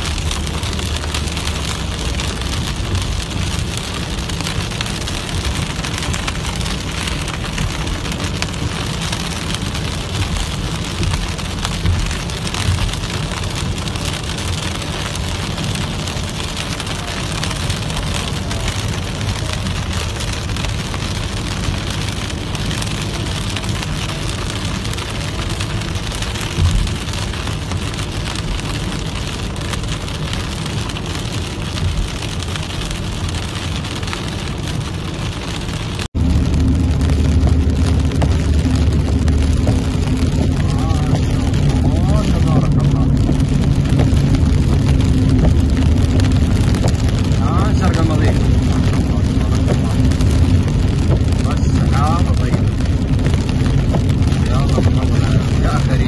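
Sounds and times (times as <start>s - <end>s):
car driving on wet road: 0.0s - 56.0s
heavy rain on car windshield: 0.0s - 56.0s.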